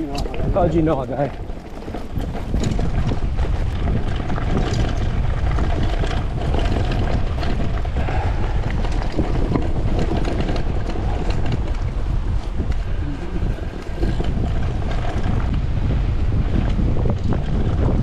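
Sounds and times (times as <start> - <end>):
bike rattling and knocking: 0.0 - 18.0
bike tyres crunching on stones: 0.0 - 18.0
wind rumbling on microphone: 0.0 - 18.0.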